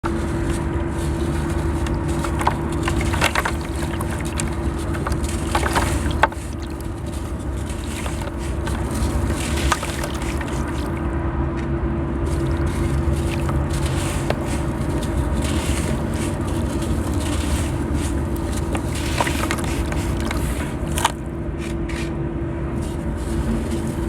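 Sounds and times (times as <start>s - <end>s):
sand blocks crunching: 0.0s - 11.1s, 12.2s - 24.0s.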